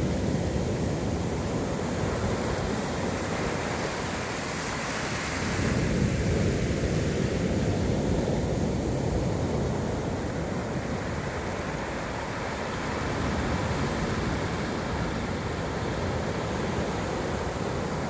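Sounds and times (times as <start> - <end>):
waves washing on shore: 0.0 - 18.0.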